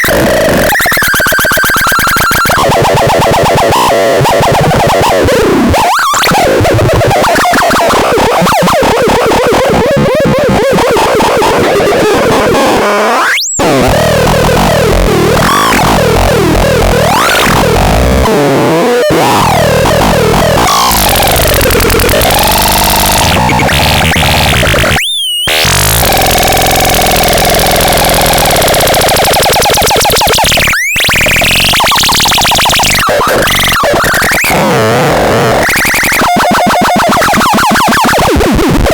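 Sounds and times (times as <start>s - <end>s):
harsh synthesizer noise: 0.0s - 38.9s.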